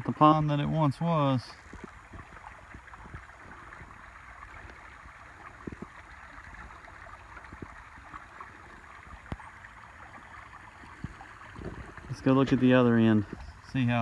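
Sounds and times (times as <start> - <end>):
creek water trickling: 0.0 - 14.0.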